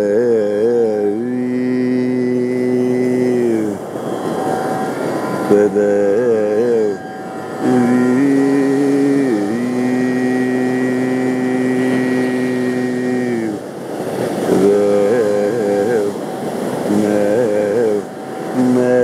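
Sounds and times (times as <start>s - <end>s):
man singing with ornaments: 0.0s - 19.0s
ocean waves: 0.0s - 19.0s
tambura drone: 0.0s - 19.0s.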